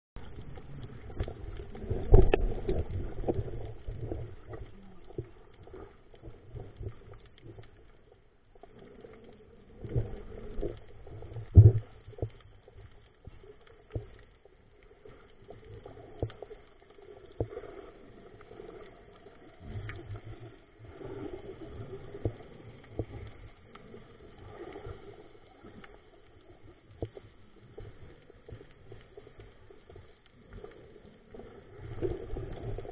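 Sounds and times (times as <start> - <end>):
muffled underwater water movement: 0.2 - 32.9.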